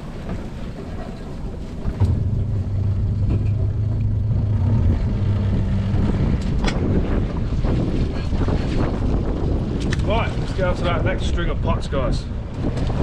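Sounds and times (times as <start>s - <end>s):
outboard motor droning: 0.0s - 10.6s
water noise: 0.0s - 13.0s
wind: 0.0s - 13.0s.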